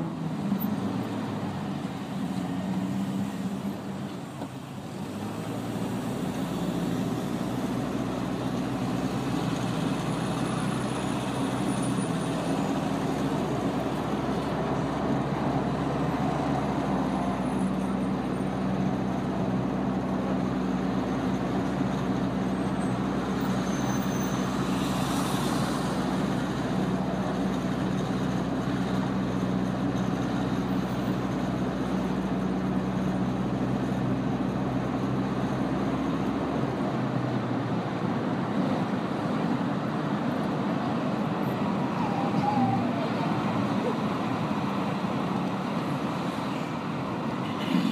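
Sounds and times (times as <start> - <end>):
passing traffic: 0.0 - 47.9
vehicle engines humming: 0.0 - 47.9.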